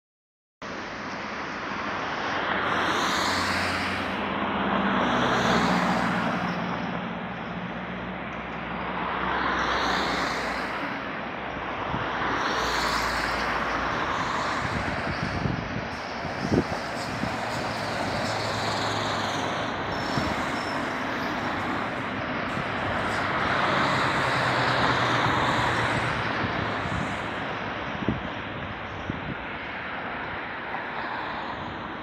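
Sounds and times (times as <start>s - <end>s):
city bus passing: 0.6s - 32.0s
vehicles passing: 0.6s - 32.0s.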